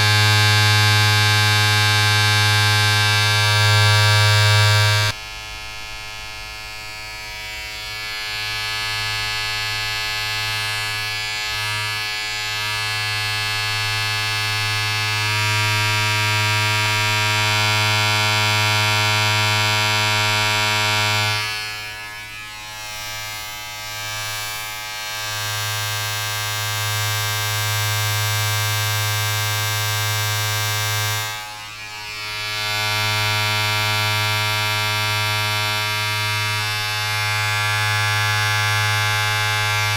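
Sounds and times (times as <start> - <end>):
electric motor buzz: 0.0 - 5.2, 6.7 - 39.9.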